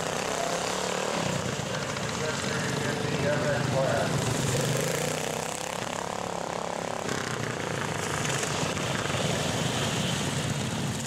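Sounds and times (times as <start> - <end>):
garden tractor engines racing: 0.0 - 11.0.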